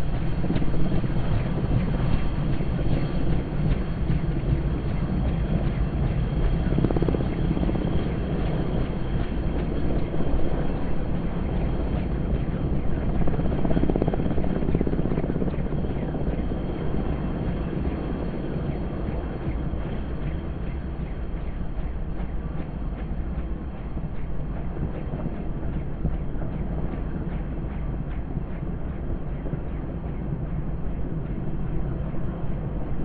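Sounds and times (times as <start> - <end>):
helicopter hovering: 0.0 - 33.0.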